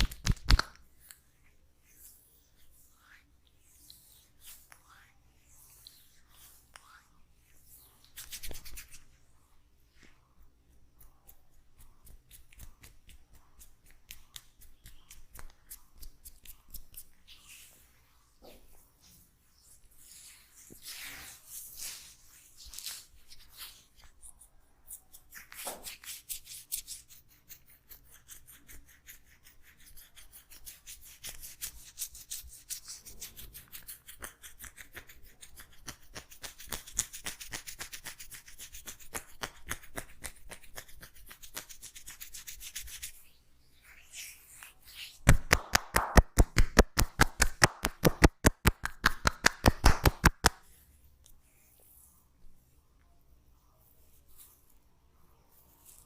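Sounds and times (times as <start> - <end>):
hands rubbing hair: 0.0 - 9.2, 10.0 - 52.4, 53.8 - 54.9, 55.5 - 56.0.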